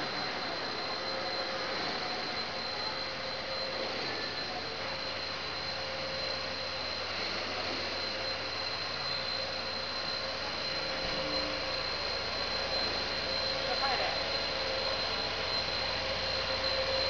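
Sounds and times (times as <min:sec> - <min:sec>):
pipe extrusion machinery humming: 0:00.0 - 0:17.0.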